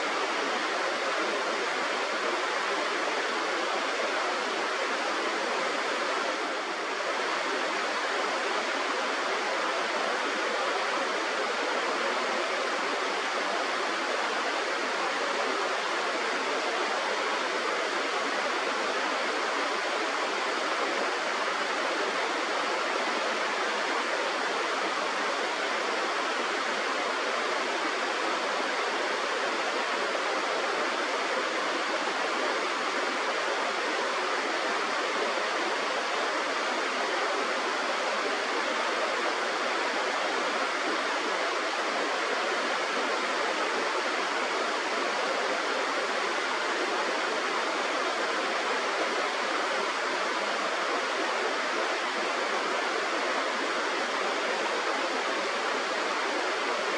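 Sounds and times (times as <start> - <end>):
river water rushing: 0.0 - 56.9.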